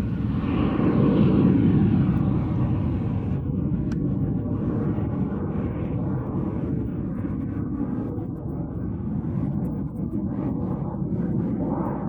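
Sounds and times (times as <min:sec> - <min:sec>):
aircraft rumble in flight: 0:00.0 - 0:12.0.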